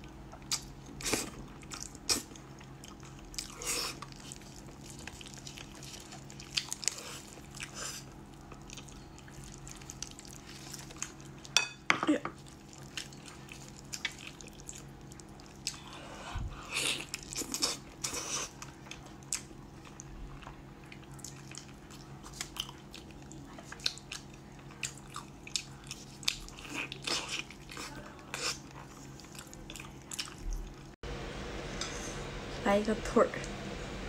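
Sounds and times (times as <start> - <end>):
chewing and tearing meat: 0.1 - 11.6, 12.4 - 16.0, 16.6 - 31.0.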